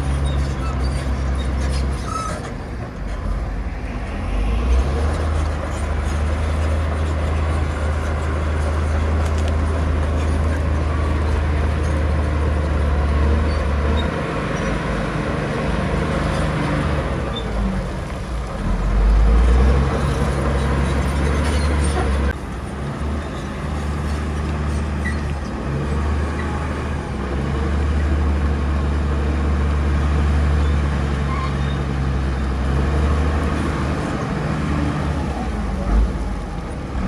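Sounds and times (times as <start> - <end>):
bulldozer diesel engine droning: 0.0 - 37.0.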